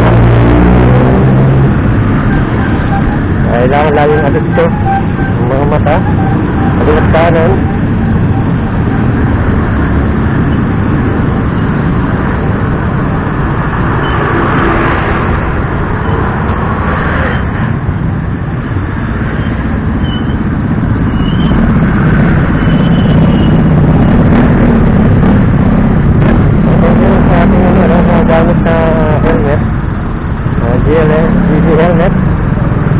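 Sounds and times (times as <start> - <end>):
motorcycle engine: 0.0 - 32.9
traffic: 0.0 - 32.9
wind noise: 0.0 - 32.9.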